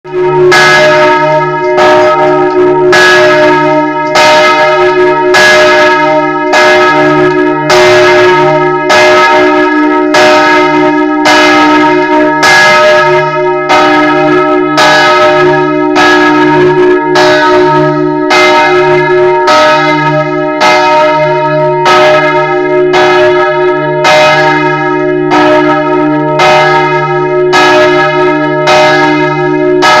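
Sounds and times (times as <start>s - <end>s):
church bell ringing: 0.1s - 30.0s.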